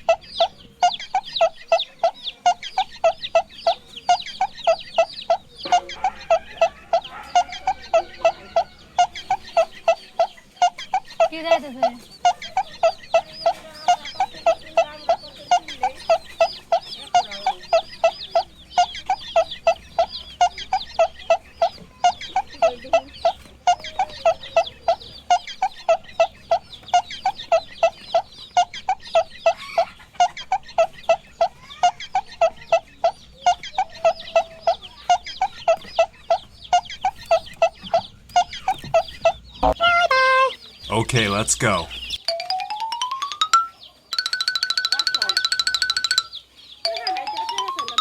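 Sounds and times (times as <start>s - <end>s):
chickens clucking: 0.0s - 48.0s
high chirping: 0.0s - 48.0s.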